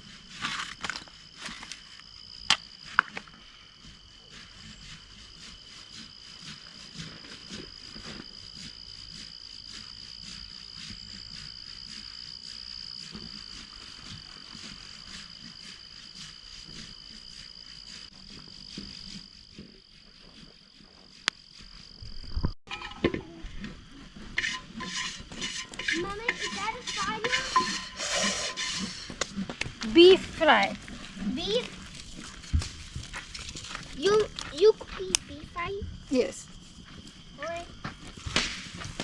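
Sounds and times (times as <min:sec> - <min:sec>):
crickets trilling: 0:00.0 - 0:39.0.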